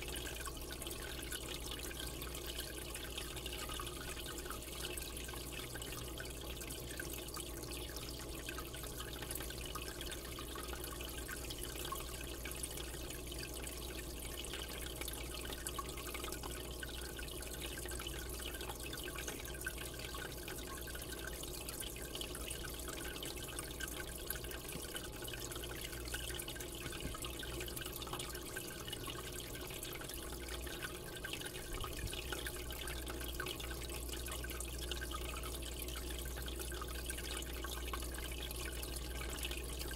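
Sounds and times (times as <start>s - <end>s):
aquarium water trickling: 0.0s - 39.9s
low steady hum: 0.0s - 39.9s.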